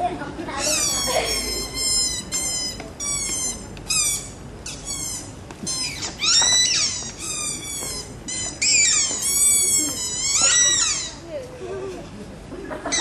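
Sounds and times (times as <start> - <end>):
birds squawking: 0.6 - 11.2.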